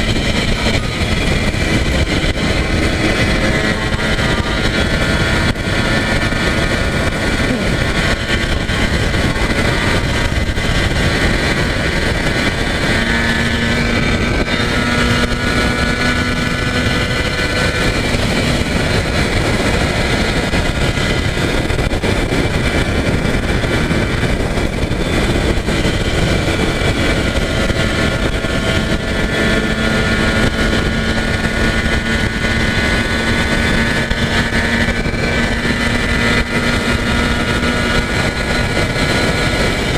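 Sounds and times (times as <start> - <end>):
motorcycle engine running steadily: 0.0 - 39.9
wind rush on microphone: 0.0 - 39.9.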